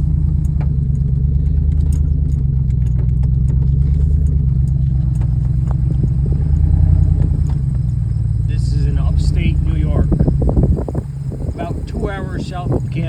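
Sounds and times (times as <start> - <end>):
small clicks and rattles: 0.0 - 13.0
vehicle engine running: 0.0 - 13.0.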